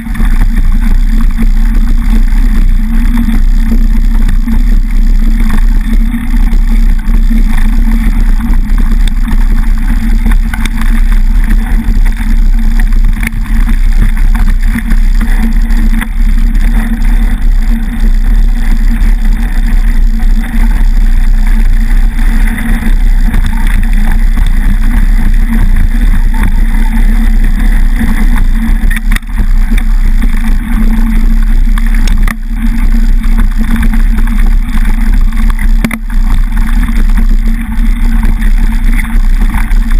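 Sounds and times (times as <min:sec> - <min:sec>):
bike rattling: 0:00.0 - 0:39.9
bike tyre rolling on gravel: 0:00.0 - 0:39.9.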